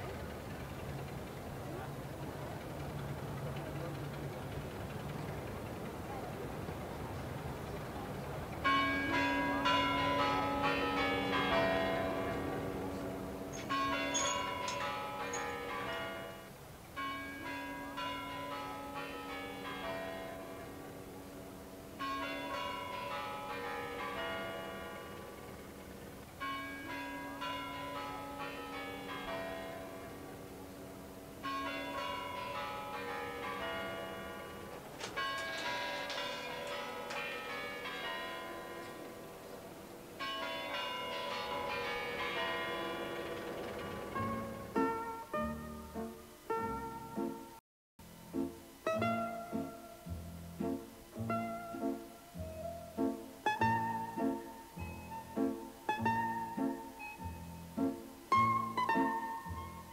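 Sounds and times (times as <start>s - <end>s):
tower clock bells chiming: 0.0s - 46.0s, 48.9s - 59.9s.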